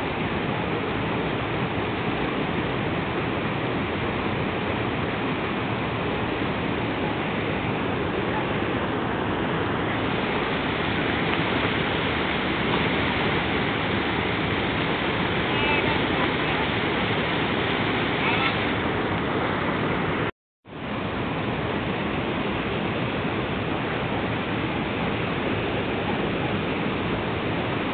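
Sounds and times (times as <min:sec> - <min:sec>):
river rushing over rocks: 0:00.0 - 0:27.9.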